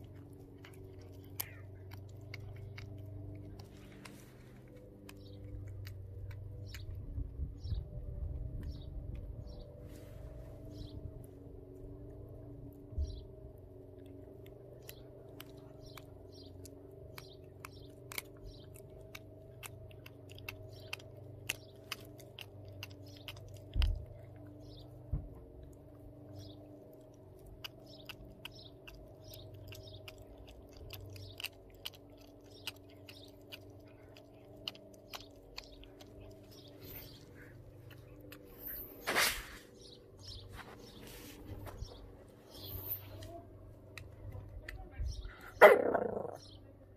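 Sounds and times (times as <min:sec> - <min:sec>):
dog crunching on bone: 0:00.0 - 0:09.6, 0:11.2 - 0:44.8.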